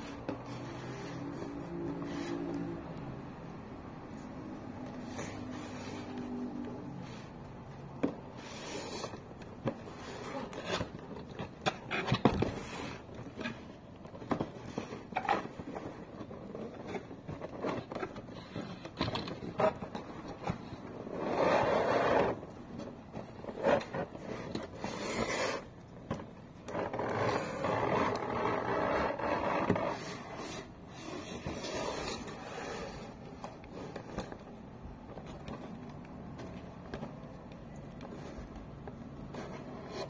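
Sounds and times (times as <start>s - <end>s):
packaging scrapes and clicks: 4.1s - 40.0s.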